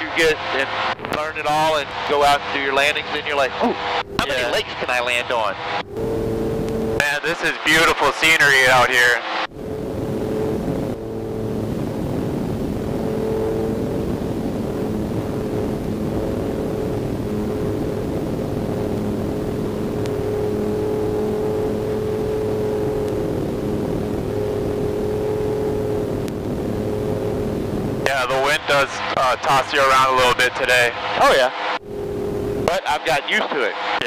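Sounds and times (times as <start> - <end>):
aircraft engine and propeller: 0.0 - 34.0.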